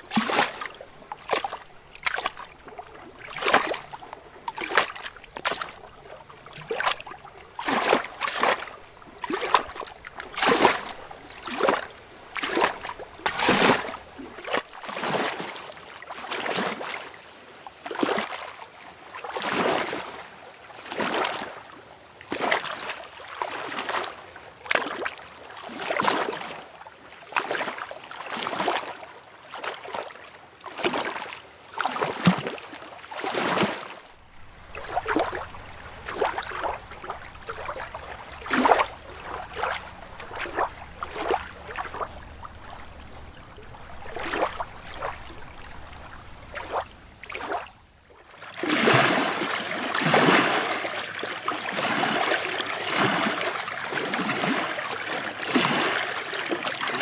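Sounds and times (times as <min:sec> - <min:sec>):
lake water lapping: 0:00.0 - 0:57.0.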